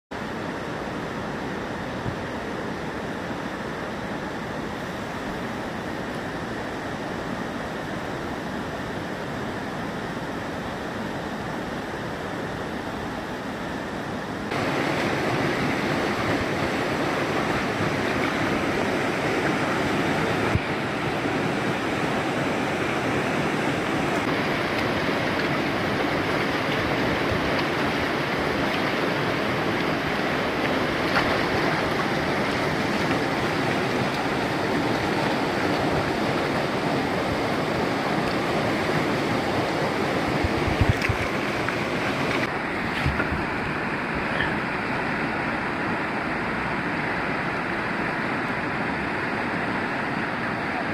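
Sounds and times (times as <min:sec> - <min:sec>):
river rapids rushing over rocks: 0:00.2 - 0:50.9.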